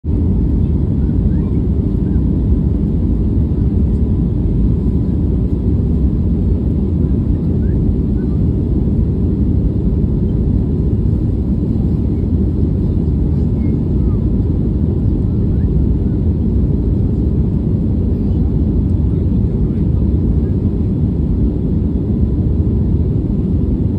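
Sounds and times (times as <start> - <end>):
jet cabin engine rumble: 0.0 - 23.9.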